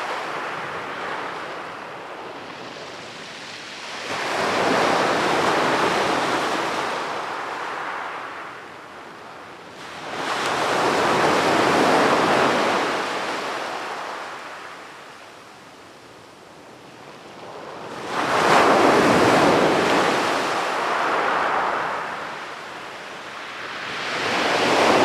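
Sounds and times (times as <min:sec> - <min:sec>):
ocean waves breaking on beach: 0:00.0 - 0:15.8, 0:16.6 - 0:25.0.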